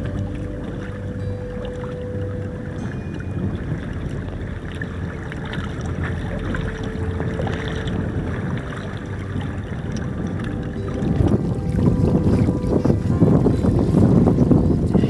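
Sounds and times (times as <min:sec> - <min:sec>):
boat engine rumble: 0:00.0 - 0:15.0
water noise: 0:00.0 - 0:15.0
wind: 0:00.0 - 0:15.0.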